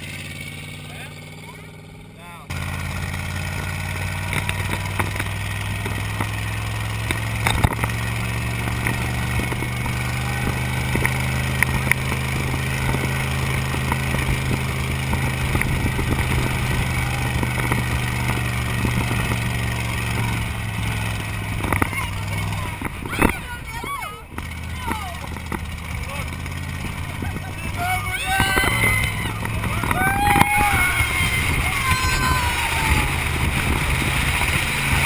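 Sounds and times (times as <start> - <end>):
dune buggy engine running: 0.0 - 35.0.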